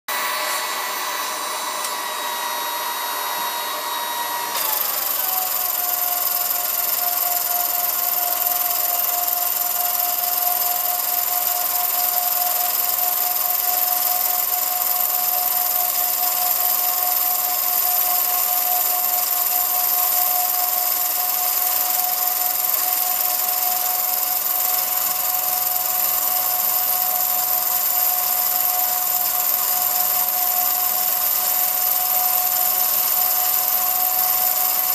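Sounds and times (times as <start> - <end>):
film projector motor whine: 0.1 - 34.9.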